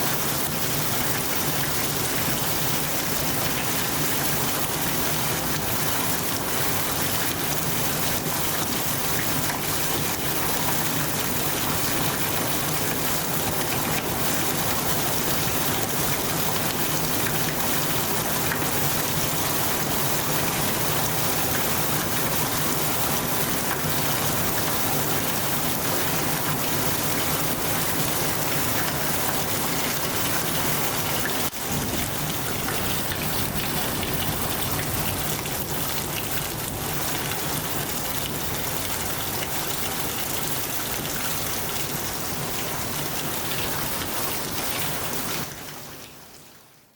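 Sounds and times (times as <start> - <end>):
heavy rain pouring: 0.0 - 46.0.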